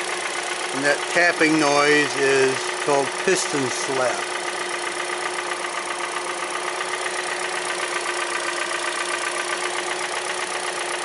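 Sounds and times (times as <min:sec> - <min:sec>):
car engine idling: 0:00.0 - 0:11.0
rapid engine tapping: 0:00.0 - 0:11.0.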